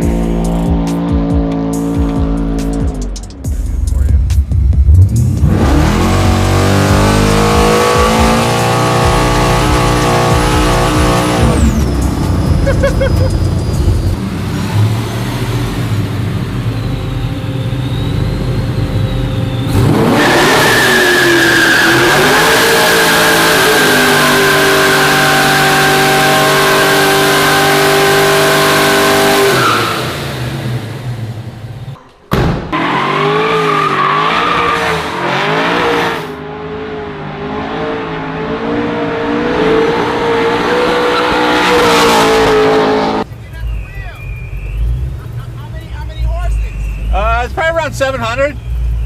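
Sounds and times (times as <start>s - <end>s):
car engine revving: 0.0s - 32.1s, 32.7s - 49.0s.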